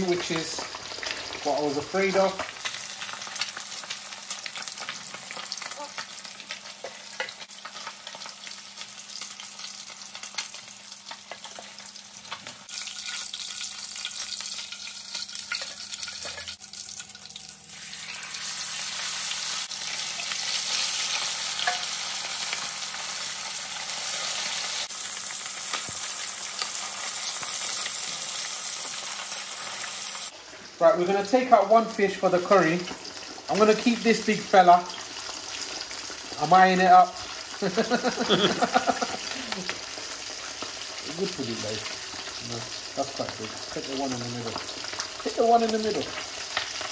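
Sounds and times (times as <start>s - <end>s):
fish sizzling in hot oil: 0.0s - 46.9s.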